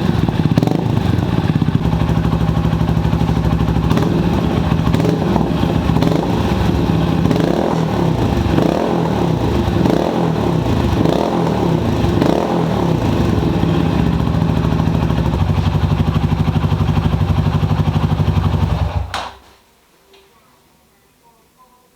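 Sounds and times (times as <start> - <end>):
motorcycle engine revving and idling: 0.0 - 19.1.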